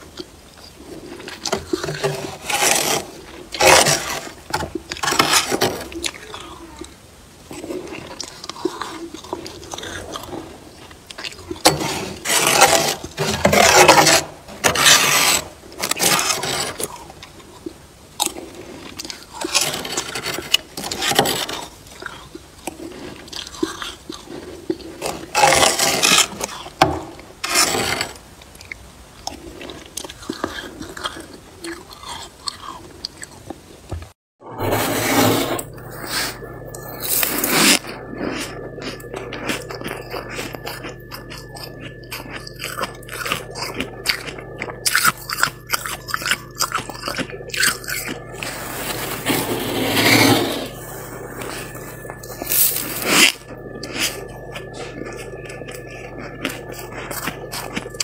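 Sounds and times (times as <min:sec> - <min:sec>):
spoon scraping freezer frost: 0:00.6 - 0:06.9, 0:07.5 - 0:28.8, 0:34.6 - 0:58.0.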